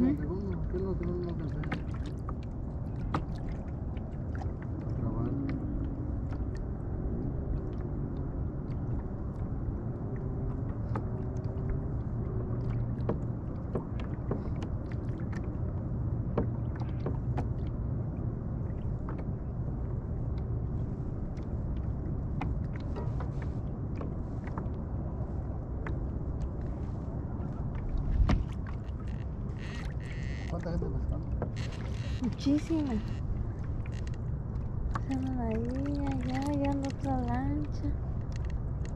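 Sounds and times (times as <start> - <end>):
boat motor running: 0.0 - 24.7, 27.2 - 38.9
water slapping against hull: 0.0 - 38.9.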